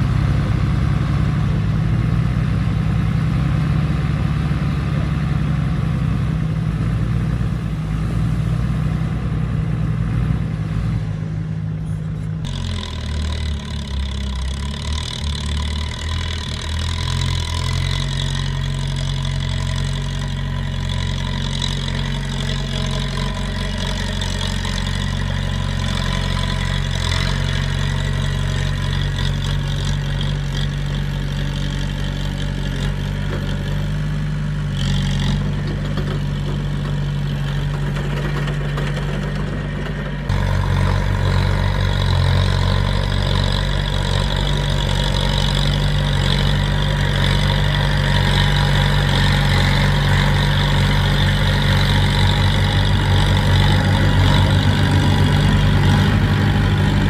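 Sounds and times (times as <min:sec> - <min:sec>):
bulldozer diesel engines running: 0:00.0 - 0:57.0.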